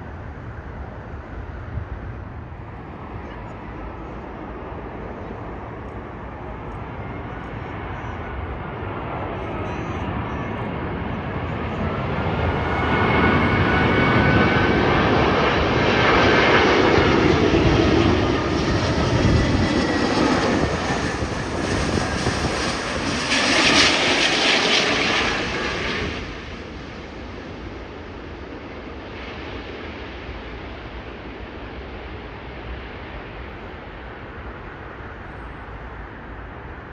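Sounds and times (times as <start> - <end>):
jet airliner passing overhead: 0.0 - 36.9.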